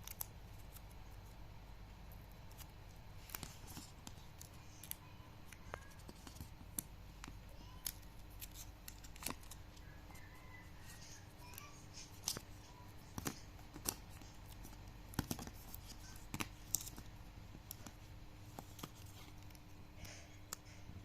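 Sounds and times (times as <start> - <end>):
packaging clicks and snips: 0.0 - 1.3, 2.1 - 20.8
faint packaging rustling: 0.0 - 21.0.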